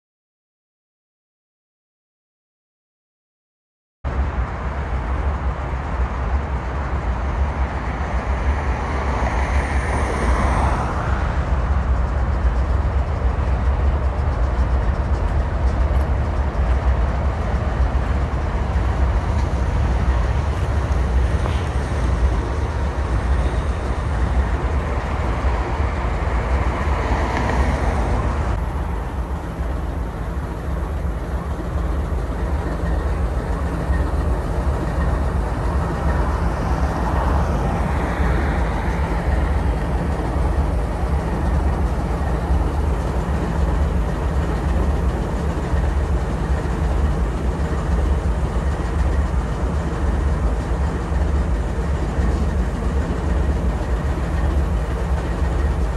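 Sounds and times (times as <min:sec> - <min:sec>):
diesel locomotives idling: 0:04.1 - 0:55.9.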